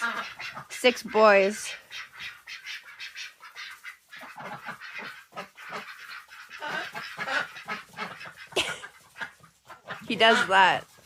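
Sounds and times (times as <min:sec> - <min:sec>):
ducks and chickens calling: 0:00.0 - 0:11.0.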